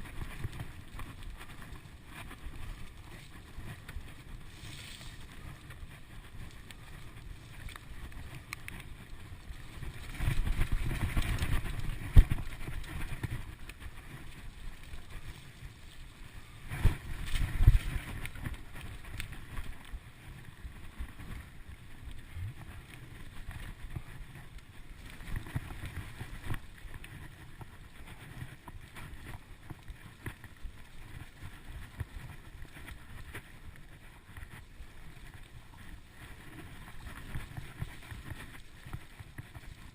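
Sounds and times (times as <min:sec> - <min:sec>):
bike rattles and clicks: 0:00.0 - 0:39.9
tyre and wind noise: 0:00.0 - 0:39.9.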